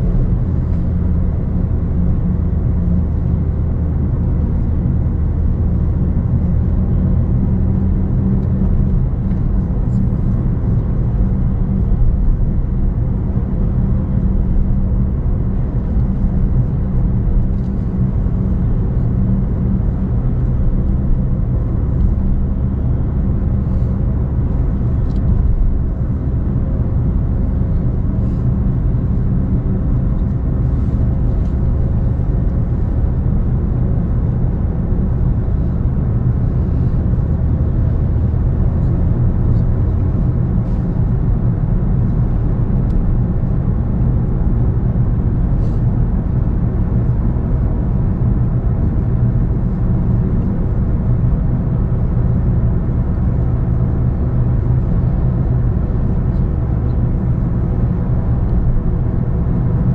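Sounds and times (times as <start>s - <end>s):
road noise: 0.0s - 59.9s
vehicle engine hum: 0.0s - 59.9s.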